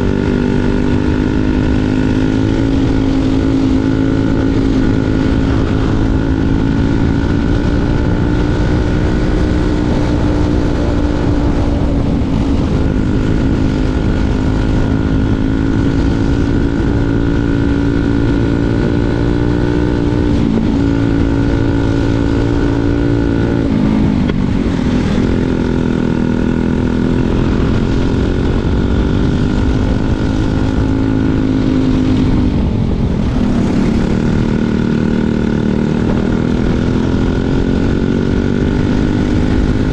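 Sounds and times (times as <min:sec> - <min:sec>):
kart engine revving high: 0:00.0 - 0:39.9.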